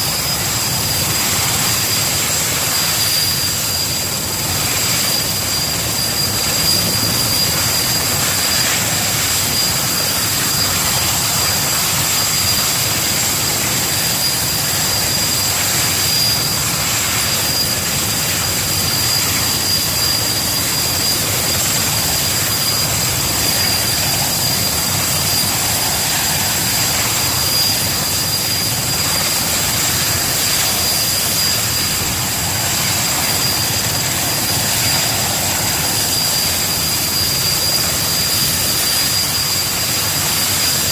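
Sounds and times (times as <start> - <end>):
helicopter engines running: 0.0 - 40.9
helicopter rotor rushing: 0.0 - 40.9
turbine whine: 0.0 - 40.9.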